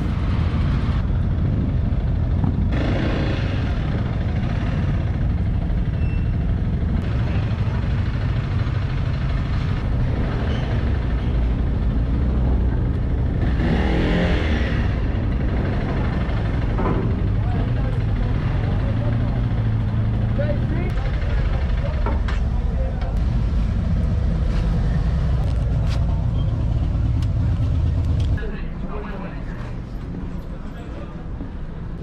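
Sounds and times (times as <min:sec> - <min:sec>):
motorcycle engines rumbling: 0:00.0 - 0:32.0.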